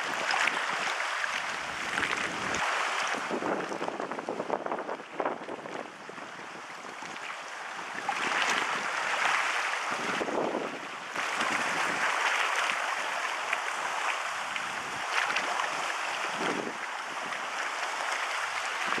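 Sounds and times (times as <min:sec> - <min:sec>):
sea waves breaking: 0:00.0 - 0:19.0.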